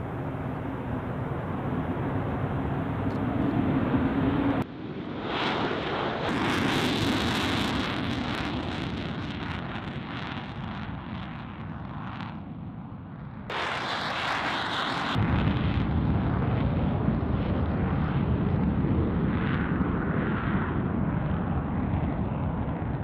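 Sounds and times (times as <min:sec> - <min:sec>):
fighter jets taking off: 0:00.0 - 0:23.0.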